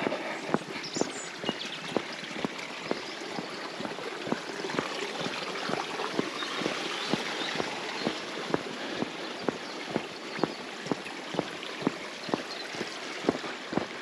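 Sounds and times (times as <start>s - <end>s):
bird chirping: 0.0s - 14.0s
rushing water: 0.0s - 14.0s
walking footsteps: 0.0s - 14.0s.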